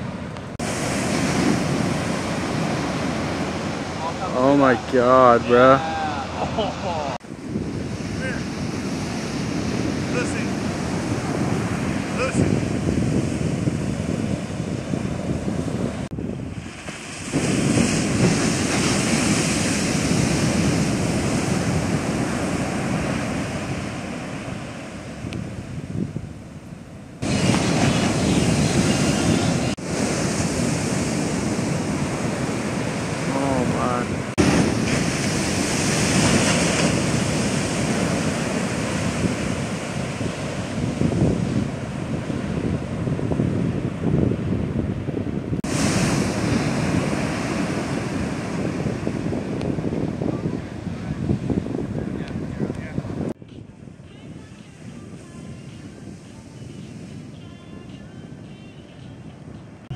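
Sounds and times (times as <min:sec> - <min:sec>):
heavy waves crashing: 0:00.0 - 0:59.9
wind buffeting microphone: 0:00.0 - 0:59.9.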